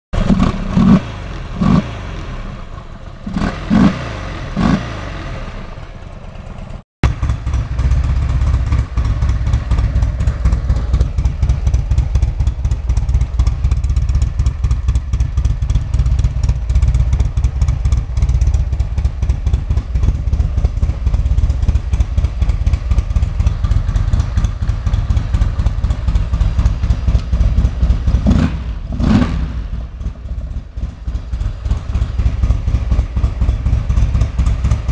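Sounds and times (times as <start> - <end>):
motorcycle engine revving and idling: 0.2 - 34.9.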